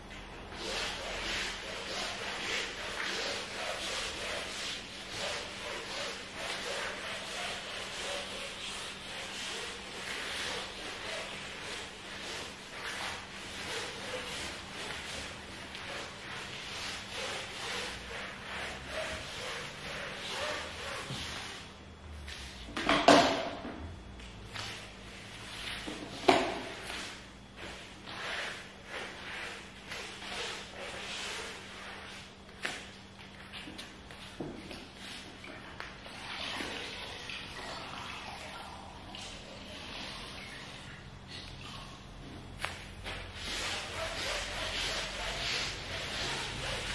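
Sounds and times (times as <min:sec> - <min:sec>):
mop swishing on floor mat: 0:00.1 - 0:46.9.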